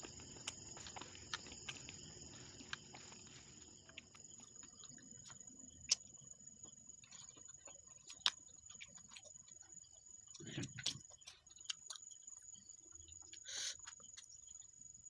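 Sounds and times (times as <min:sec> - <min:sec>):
chewing crunchy food: 0:00.0 - 0:14.8.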